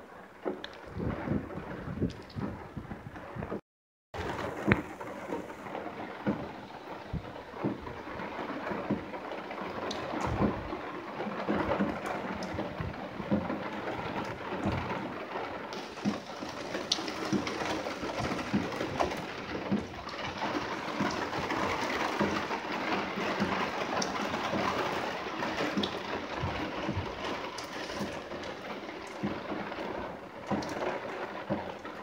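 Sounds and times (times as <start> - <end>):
steady rain with drop ticks: 0.0 - 3.6, 4.2 - 32.0.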